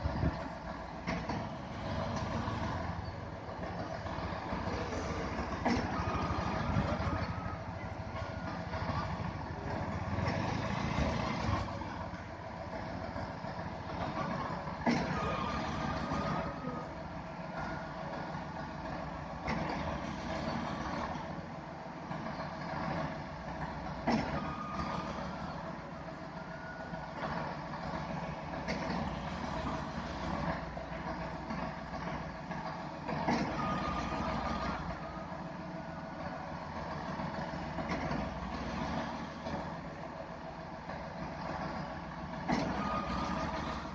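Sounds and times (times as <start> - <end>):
diesel truck engines running: 0.0 - 43.9.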